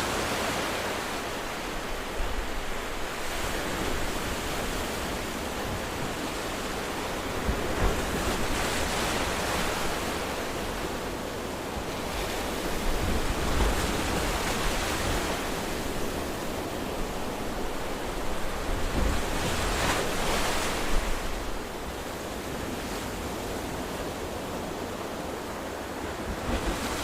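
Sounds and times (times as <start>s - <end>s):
ocean surf washing: 0.0s - 27.0s.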